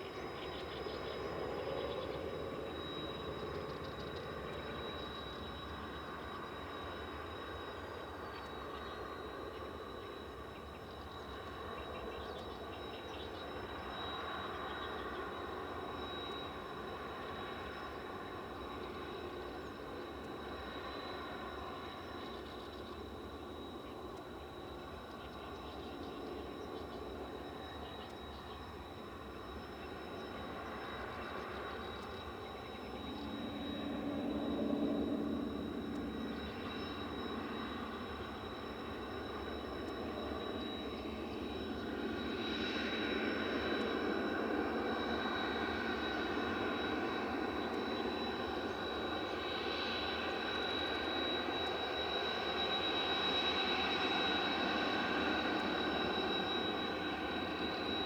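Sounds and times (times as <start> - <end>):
jet engine turbine whine: 0.0 - 58.0.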